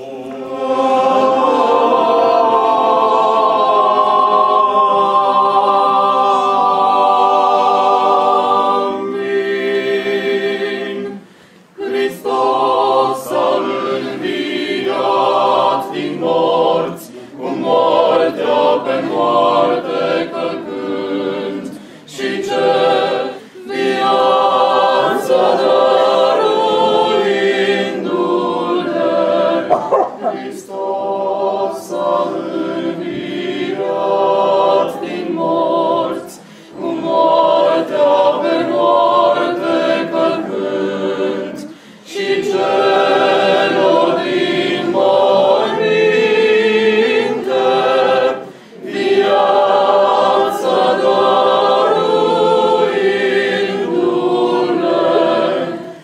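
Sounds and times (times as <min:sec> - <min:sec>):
choir singing chant: 0:00.0 - 0:56.0.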